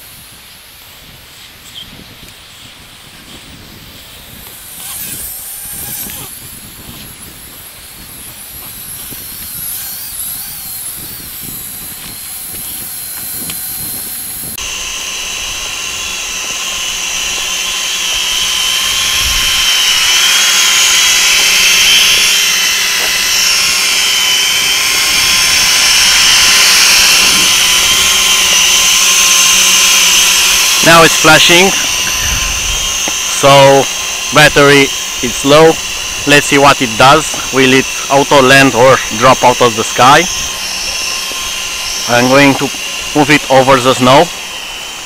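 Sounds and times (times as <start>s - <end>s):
quadcopter propellers whining: 0.0s - 45.0s.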